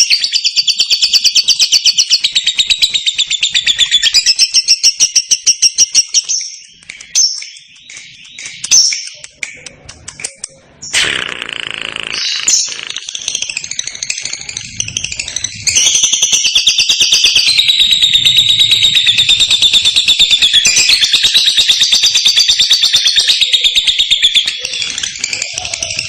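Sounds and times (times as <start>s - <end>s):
bird chattering trill: 0.0s - 26.0s.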